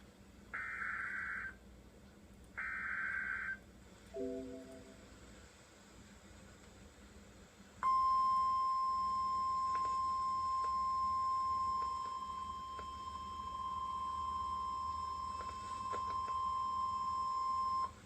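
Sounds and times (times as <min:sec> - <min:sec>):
faint radio hiss: 0:00.0 - 0:18.0.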